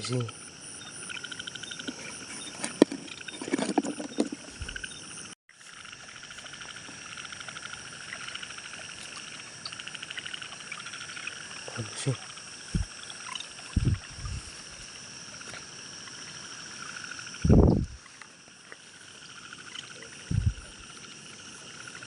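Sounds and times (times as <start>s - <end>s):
frogs and insects trilling: 0.0s - 22.0s.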